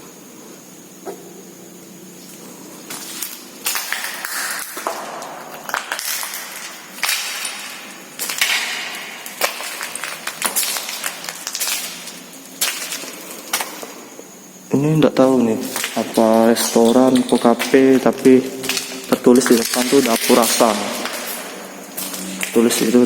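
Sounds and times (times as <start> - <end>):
footsteps crunching over rubble: 2.1 - 23.0.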